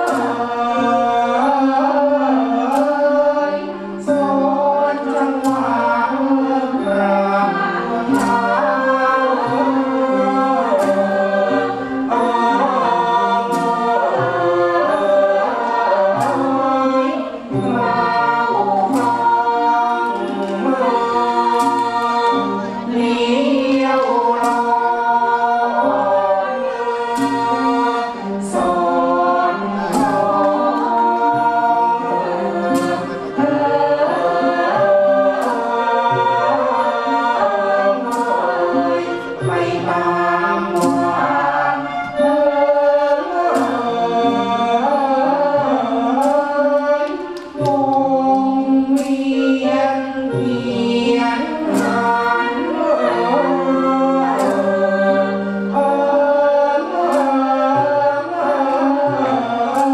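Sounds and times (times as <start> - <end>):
chorus singing: 0.0 - 59.9
orchestral accompaniment: 0.0 - 59.9
sharp percussion strikes: 0.0 - 59.9.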